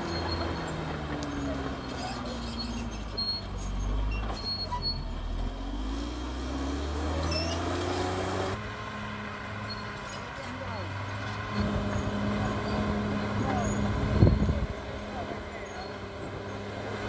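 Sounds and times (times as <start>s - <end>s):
bulldozer diesel engine revving: 0.0s - 17.0s.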